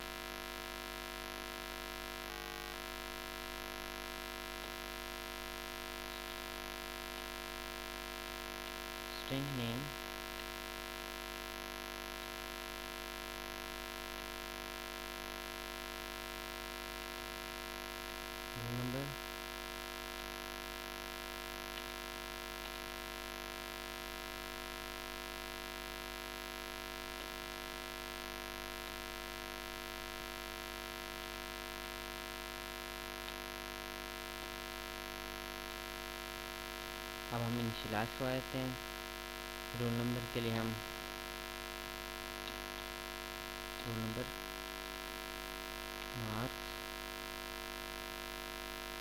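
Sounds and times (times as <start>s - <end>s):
electrical hum and hiss: 0.0s - 49.0s.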